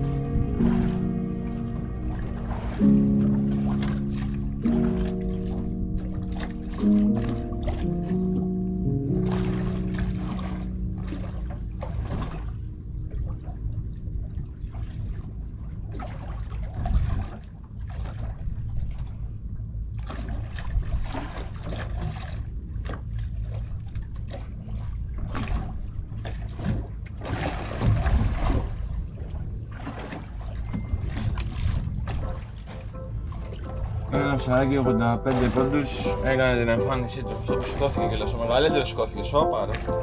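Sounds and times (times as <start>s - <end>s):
low rumble: 0.0s - 40.0s
water lapping against boat hull: 0.0s - 40.0s.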